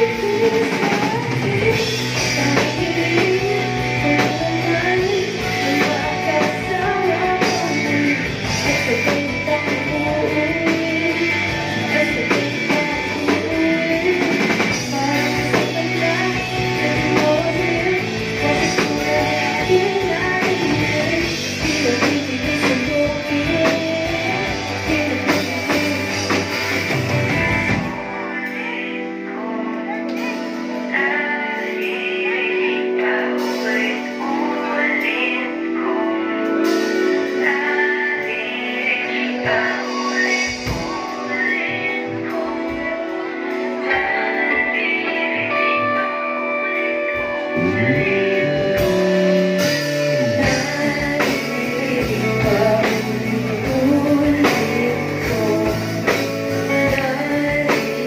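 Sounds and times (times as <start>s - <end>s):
live rock band playing: 0.0s - 58.0s
woman singing: 0.0s - 58.0s.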